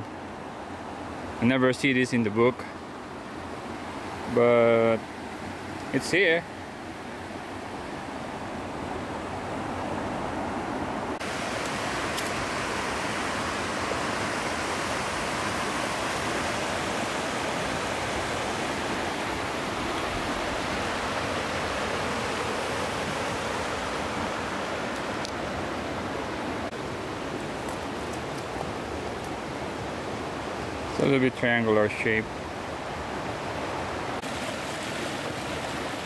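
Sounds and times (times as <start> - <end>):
river water rushing: 2.1 - 36.0.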